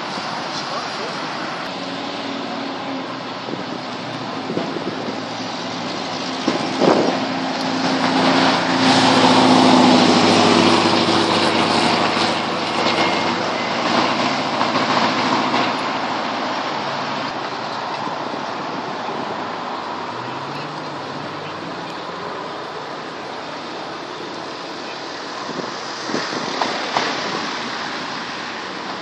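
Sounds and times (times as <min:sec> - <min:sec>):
car engine drone: 0:00.0 - 0:29.0
cars driving past: 0:00.0 - 0:29.0.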